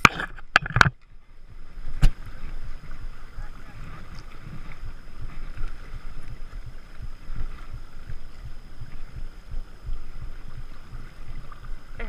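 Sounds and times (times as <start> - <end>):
faint high-pitched whine: 0.0 - 12.0
wind buffeting microphone: 1.2 - 12.0.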